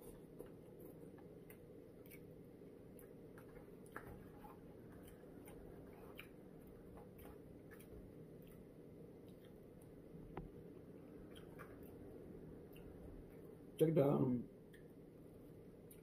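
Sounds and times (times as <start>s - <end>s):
small clicks of eating: 0.0s - 14.0s, 14.6s - 16.0s.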